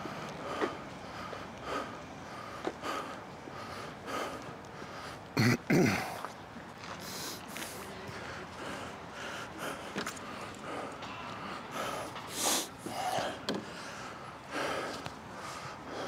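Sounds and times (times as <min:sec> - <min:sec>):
man breathing heavily: 0:00.0 - 0:06.3, 0:06.9 - 0:16.0.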